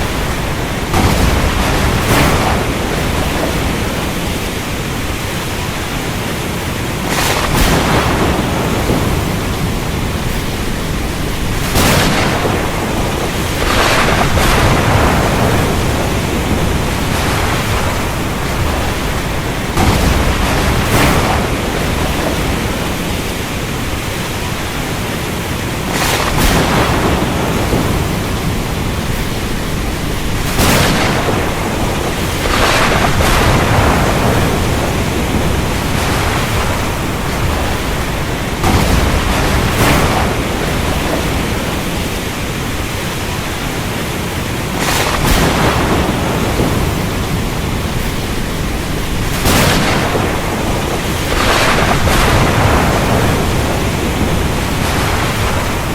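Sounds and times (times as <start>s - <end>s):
thunder cracks: 0.0s - 24.8s, 25.8s - 43.2s, 44.7s - 55.9s
heavy rain: 0.0s - 55.9s.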